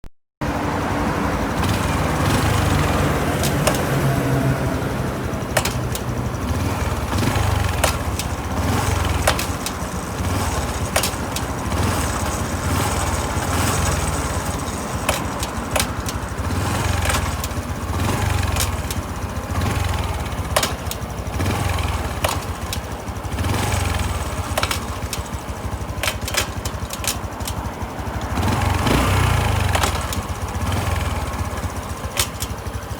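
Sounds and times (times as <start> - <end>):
motorcycle engine running: 0.4 - 32.9
gear shift clacks: 1.6 - 32.9.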